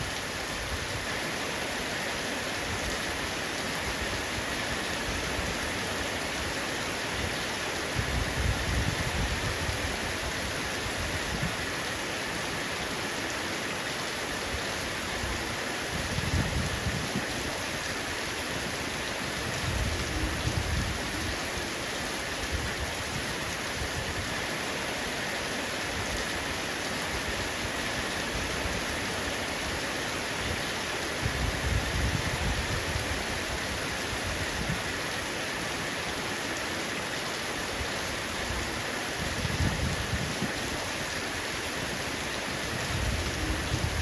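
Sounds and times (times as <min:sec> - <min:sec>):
heavy rain on a roof: 0:00.0 - 0:44.0.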